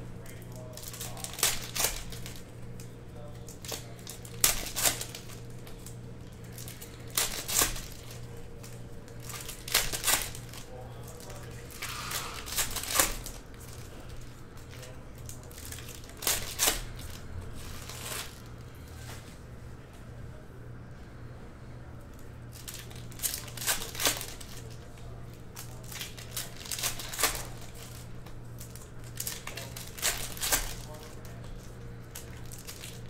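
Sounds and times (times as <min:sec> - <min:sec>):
low electrical hum: 0:00.0 - 0:33.0
foil wrappers tearing and crinkling: 0:00.2 - 0:19.2, 0:22.5 - 0:33.0.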